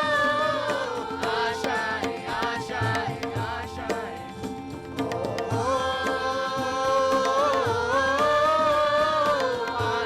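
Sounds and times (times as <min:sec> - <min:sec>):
drum beats: 0:00.0 - 0:10.0
instrumental accompaniment: 0:00.0 - 0:10.0.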